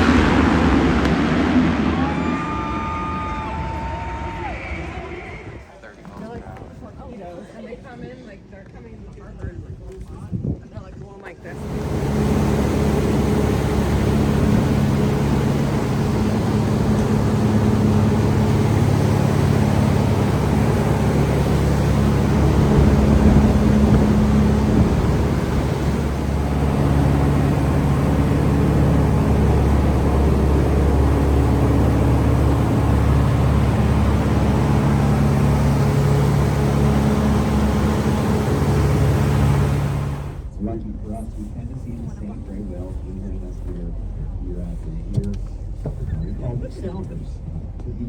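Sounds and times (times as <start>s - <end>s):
boat engine humming: 0.0s - 5.9s, 11.4s - 48.0s.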